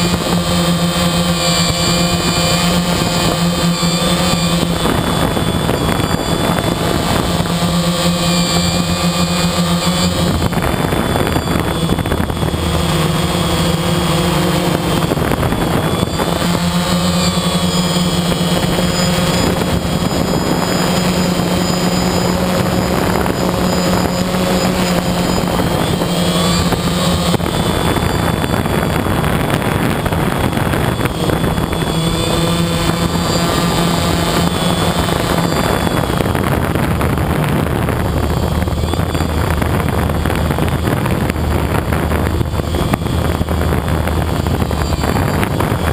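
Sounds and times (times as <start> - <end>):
quadcopter propellers whirring: 0.0 - 45.9.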